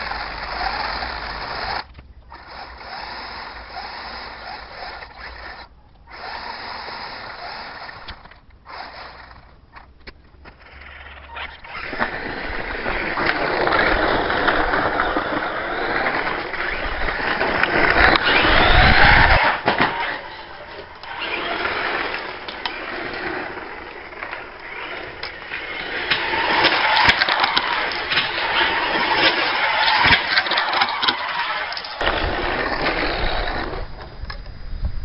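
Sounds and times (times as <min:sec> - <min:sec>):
electric motor whining: 0:00.0 - 0:34.4
tyre and grit noise: 0:00.0 - 0:35.0.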